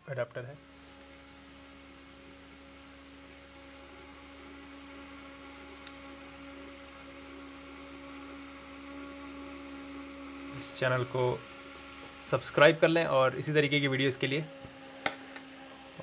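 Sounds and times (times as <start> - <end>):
small fan motor humming: 0.0 - 16.0.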